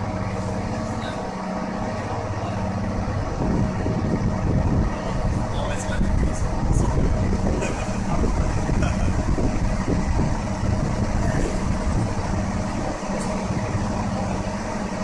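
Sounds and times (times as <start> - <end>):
constant hum: 0.0 - 15.0
locomotive rumble: 0.0 - 15.0.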